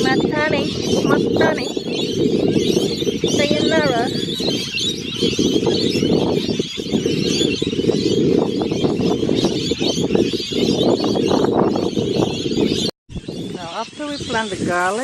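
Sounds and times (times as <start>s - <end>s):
parrots chirping: 0.0s - 15.0s
wind buffeting microphone: 0.0s - 15.0s.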